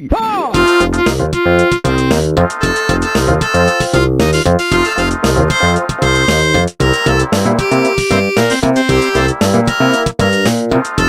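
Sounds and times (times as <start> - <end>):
synthesized ringtone melody: 0.6 - 11.0.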